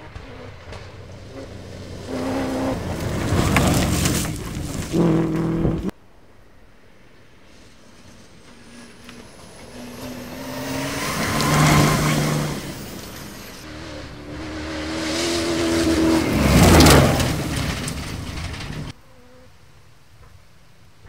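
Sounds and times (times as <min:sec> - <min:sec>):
rally car engines passing: 0:00.0 - 0:05.9, 0:07.5 - 0:18.9
tyres and flung gravel rushing: 0:00.0 - 0:06.0, 0:07.3 - 0:19.0.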